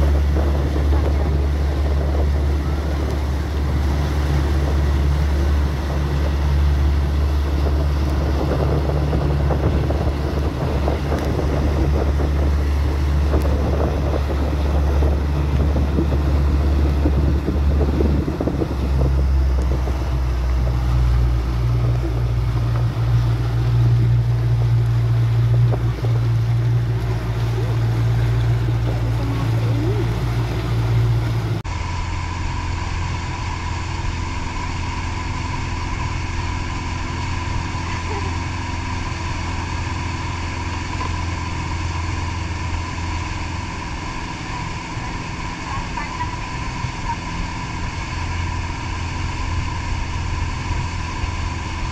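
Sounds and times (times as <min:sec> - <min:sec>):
boat wake rushing: 0:00.0 - 0:51.9
outboard motor running: 0:00.0 - 0:51.9
wind on microphone: 0:00.0 - 0:51.9.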